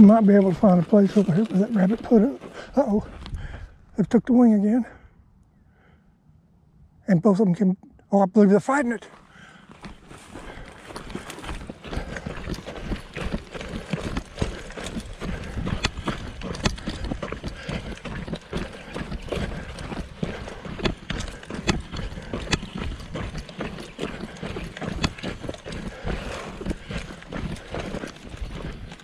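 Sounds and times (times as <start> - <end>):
footsteps on dry scrub ground: 0.0 - 4.8, 8.7 - 29.0.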